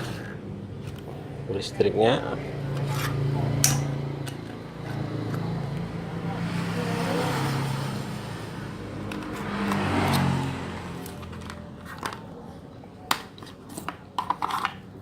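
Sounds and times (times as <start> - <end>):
vehicle engine passing by: 0.0 - 12.8.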